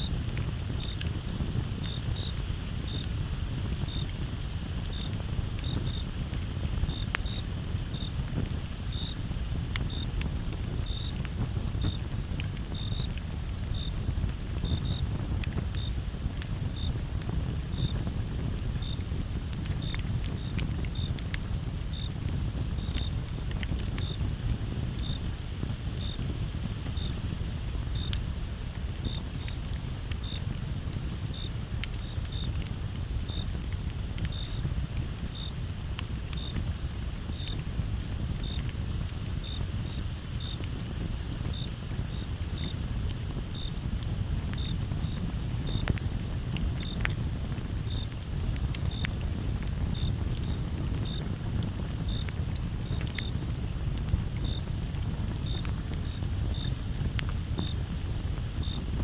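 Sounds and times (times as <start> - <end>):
campfire crackling and popping: 0.0 - 59.0
crickets chirping: 0.0 - 59.0.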